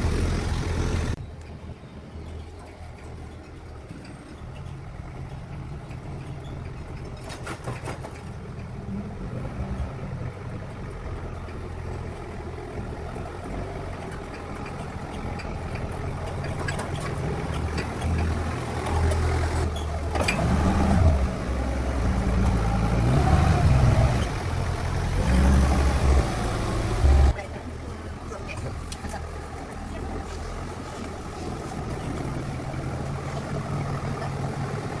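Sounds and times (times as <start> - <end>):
engine running: 0.0 - 1.2, 2.6 - 35.0.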